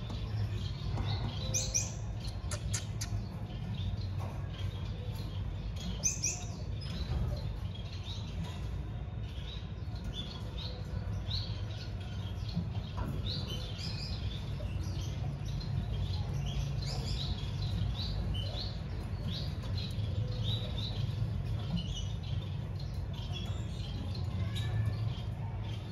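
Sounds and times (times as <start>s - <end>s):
finch chirping: 0.0s - 25.9s.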